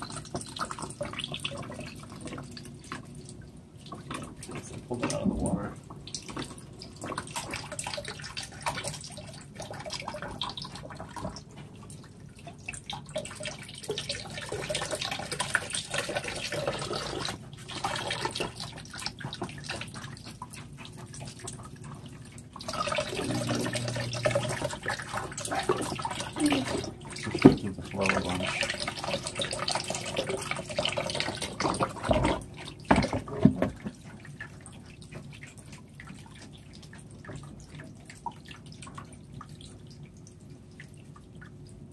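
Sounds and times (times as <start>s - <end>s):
small waterfall splashing into basin: 0.0s - 41.9s.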